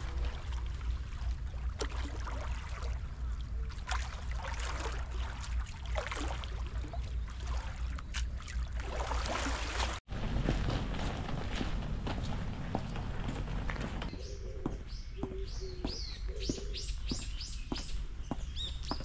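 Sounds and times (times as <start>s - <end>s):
steady low rumble: 0.0s - 9.0s, 10.0s - 19.0s.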